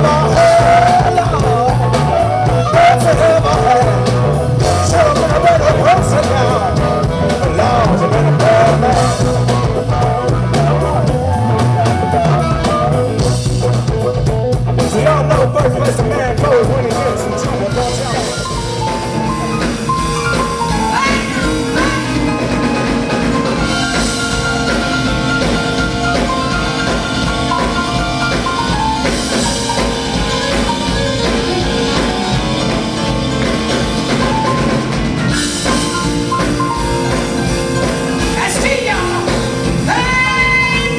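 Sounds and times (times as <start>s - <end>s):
drum kit: 0.0s - 40.9s
live blues band: 0.0s - 40.9s.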